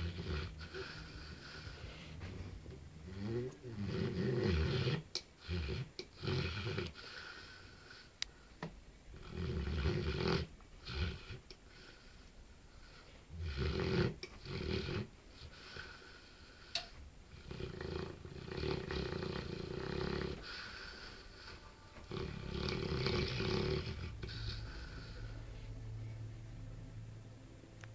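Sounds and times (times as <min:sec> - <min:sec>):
dog snoring heavily: 0:00.0 - 0:08.1, 0:09.1 - 0:12.0, 0:13.3 - 0:16.6, 0:17.3 - 0:25.4.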